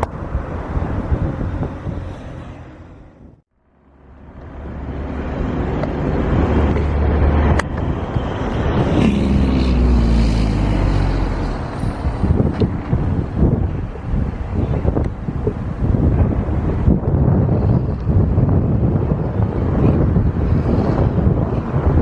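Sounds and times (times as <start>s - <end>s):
jet airliner engine roar: 0.0s - 22.0s.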